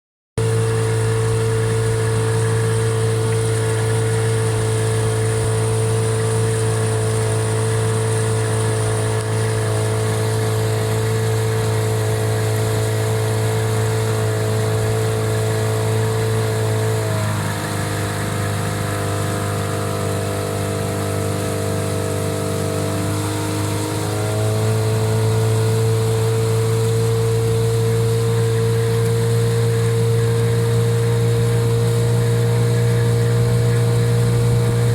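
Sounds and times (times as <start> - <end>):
outboard motor running at low revs: 0.4 - 34.9.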